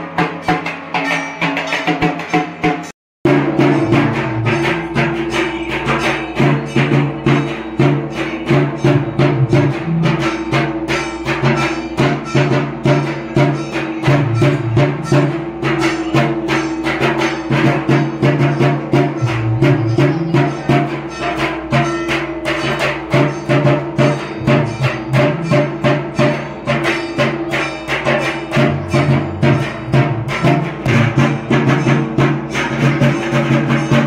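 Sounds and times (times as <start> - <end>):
quick drum strokes: 0.0 - 34.0
sustained melody: 3.3 - 34.0.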